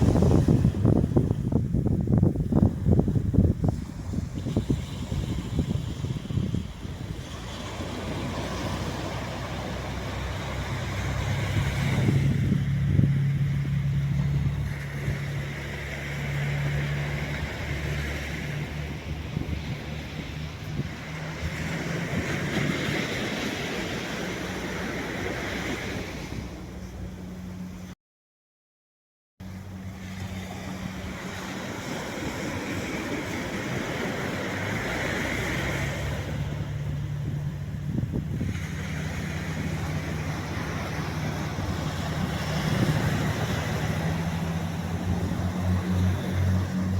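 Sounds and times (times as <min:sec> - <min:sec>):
waves washing on sandy shore: 0:00.0 - 0:27.9, 0:29.4 - 0:46.9
engine drone: 0:00.0 - 0:28.0, 0:29.4 - 0:46.9.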